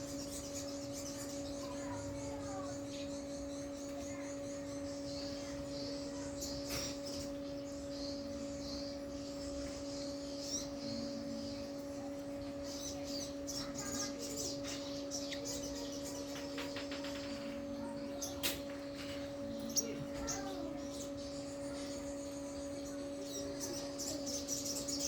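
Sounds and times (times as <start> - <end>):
bird chirping high-pitched: 0.0 - 18.6, 19.4 - 25.0
steady low hum: 0.0 - 25.0.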